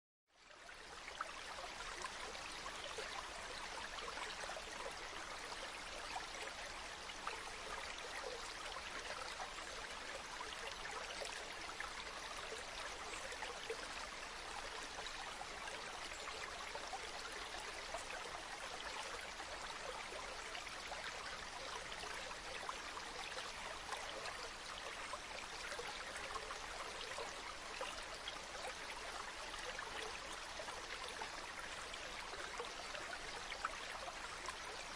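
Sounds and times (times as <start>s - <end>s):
stream water babbling: 0.4s - 34.9s.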